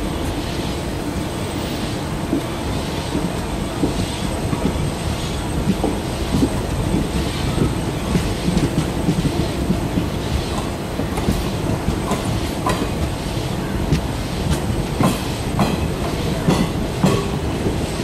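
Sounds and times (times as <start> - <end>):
train rumble: 0.0 - 18.0
train wheels clattering over rail joints: 2.2 - 18.0.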